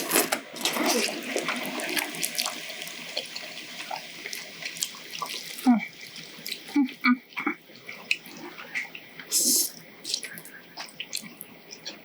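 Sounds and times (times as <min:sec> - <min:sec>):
noodles slurped and chewed: 0:00.0 - 0:12.0.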